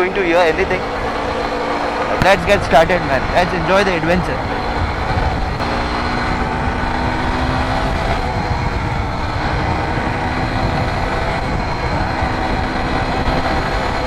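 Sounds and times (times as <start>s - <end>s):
atv engine running: 0.0s - 14.0s
rushing noise: 0.3s - 14.0s.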